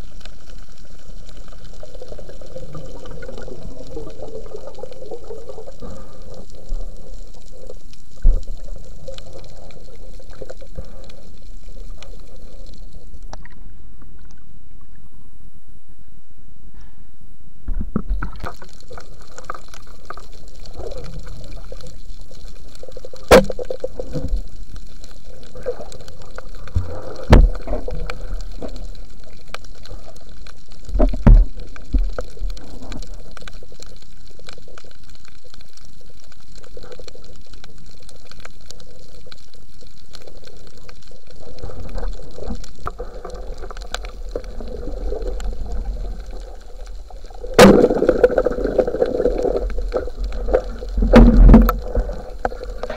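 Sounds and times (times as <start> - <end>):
muffled underwater sound: 0.0 - 52.9.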